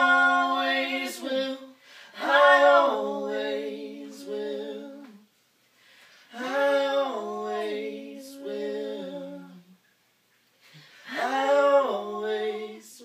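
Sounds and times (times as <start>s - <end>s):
man and woman singing harmony: 0.0s - 5.3s, 6.3s - 9.7s, 11.0s - 13.0s.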